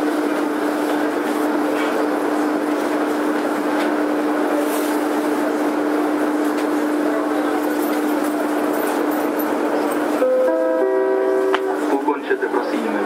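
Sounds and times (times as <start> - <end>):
train ride rushing noise: 0.0 - 13.0.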